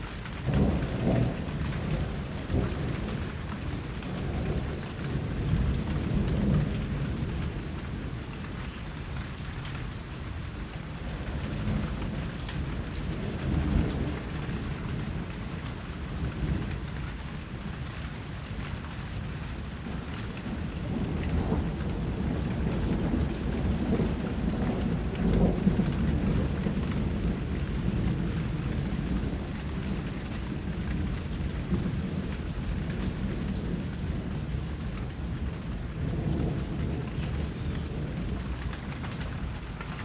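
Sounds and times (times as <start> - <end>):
rolling thunder: 0.0 - 17.5, 19.6 - 40.0
steady rain: 0.0 - 40.0.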